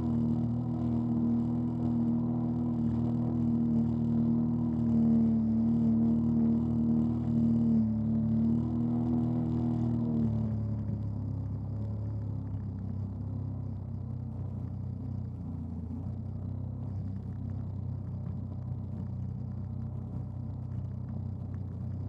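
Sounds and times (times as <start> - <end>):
jet ski engine running: 0.0 - 22.0.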